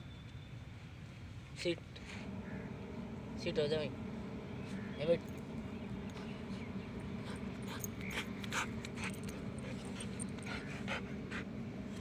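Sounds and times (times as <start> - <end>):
steady low hum: 1.0 - 12.0.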